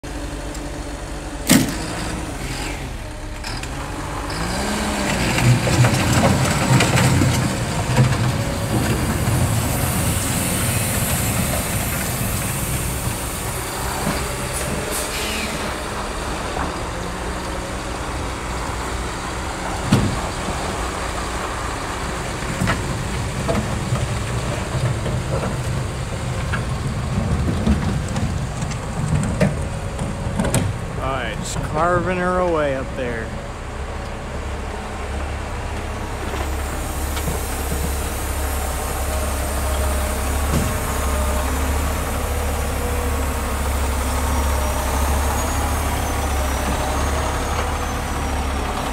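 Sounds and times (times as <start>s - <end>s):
engine revving: 0.0s - 33.4s, 34.4s - 48.9s
diesel engines working under load: 0.0s - 48.9s.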